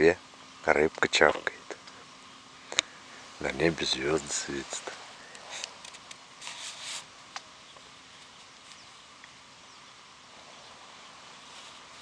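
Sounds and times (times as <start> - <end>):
low steady hush: 0.0 - 12.0.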